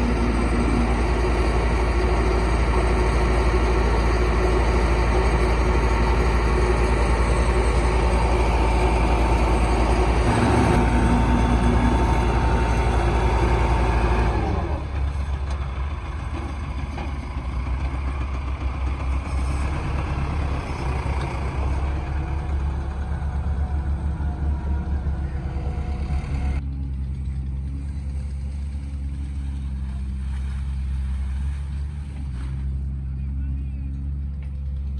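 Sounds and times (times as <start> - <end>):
heavy machine engine hum: 0.0 - 34.9.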